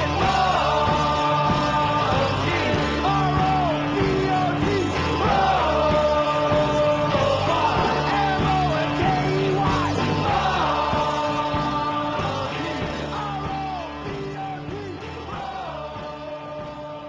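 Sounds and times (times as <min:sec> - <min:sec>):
rock music with drum beat: 0:00.0 - 0:17.0.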